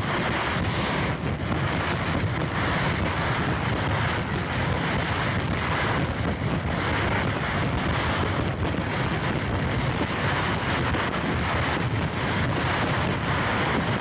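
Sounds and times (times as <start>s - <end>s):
fireworks bursting: 0.0s - 14.0s
steady rushing noise: 0.0s - 14.0s.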